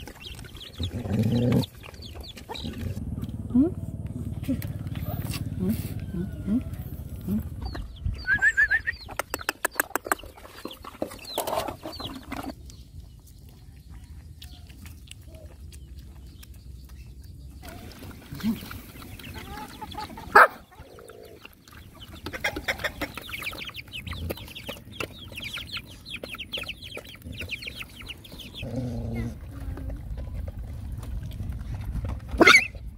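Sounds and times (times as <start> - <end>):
dogs chewing and lapping: 0.0 - 7.7, 9.0 - 32.9
chickens clucking: 0.0 - 14.7, 17.6 - 31.0.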